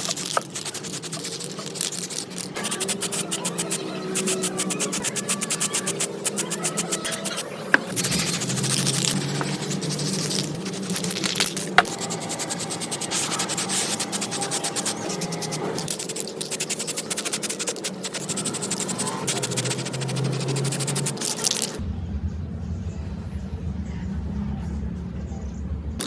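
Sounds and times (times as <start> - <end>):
hand scraping on a part: 0.0 - 21.8
steady low hum: 0.0 - 26.0.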